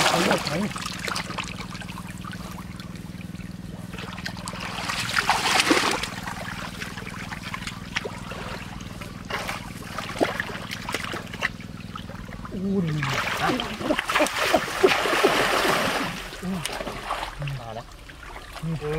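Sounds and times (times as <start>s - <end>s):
steady low hum: 0.0s - 18.9s
water splashing and trickling: 0.0s - 18.9s.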